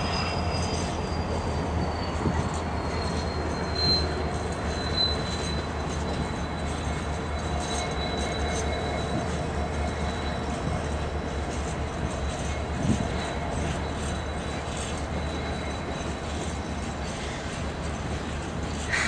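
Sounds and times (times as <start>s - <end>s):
high-pitched wheel squeal: 0.0s - 19.0s
train wheels rumbling on track: 0.0s - 19.0s.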